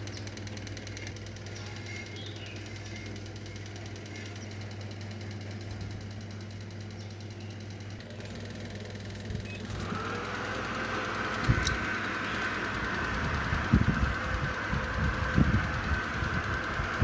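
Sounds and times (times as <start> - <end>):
electric mini fan buzzing: 0.0 - 17.0.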